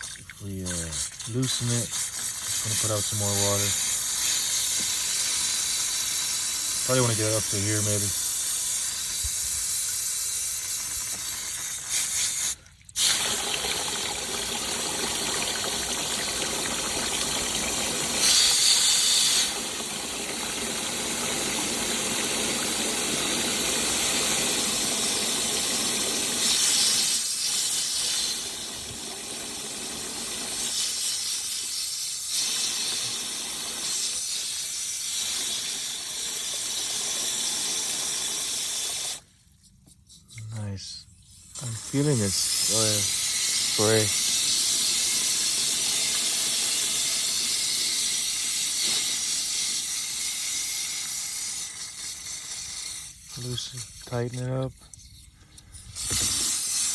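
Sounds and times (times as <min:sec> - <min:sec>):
water hissing through float valve: 0:00.0 - 0:56.9.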